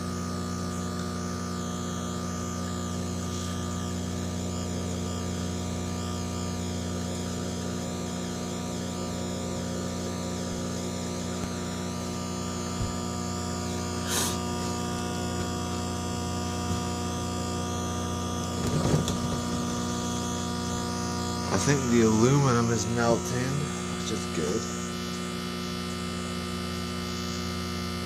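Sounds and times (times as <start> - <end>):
microwave oven humming: 0.0 - 28.0.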